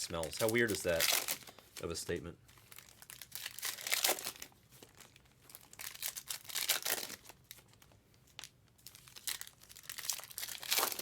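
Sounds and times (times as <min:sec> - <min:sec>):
card pack wrappers crinkling: 0:00.0 - 0:11.0.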